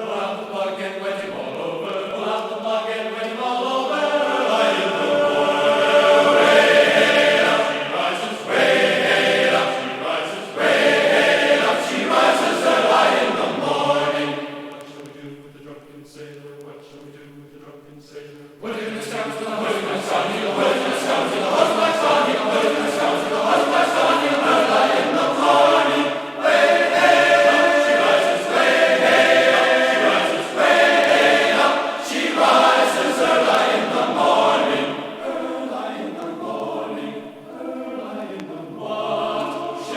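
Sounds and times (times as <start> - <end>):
choir singing chant-like harmonies: 0.0 - 39.9.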